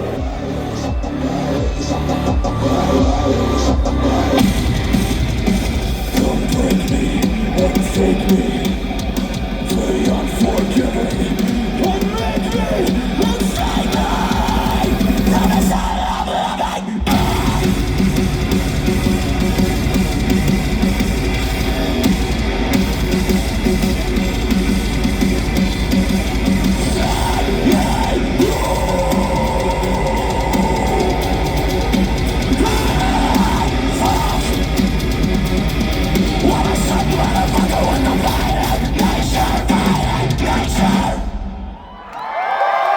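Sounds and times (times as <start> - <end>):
metalcore band playing live: 0.0 - 41.8.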